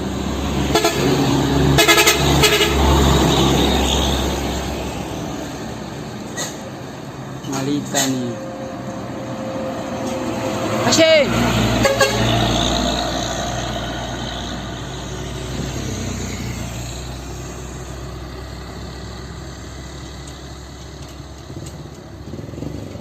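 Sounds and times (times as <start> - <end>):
truck diesel engine passing: 0.0 - 23.0.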